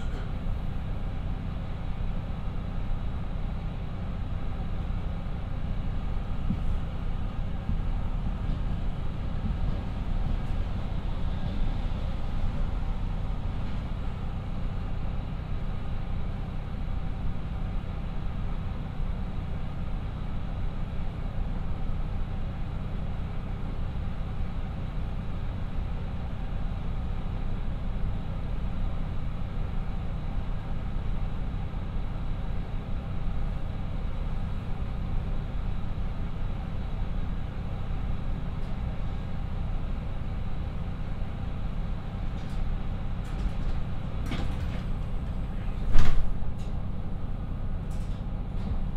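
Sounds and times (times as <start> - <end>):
diesel railcar engines idling: 0.0 - 48.9.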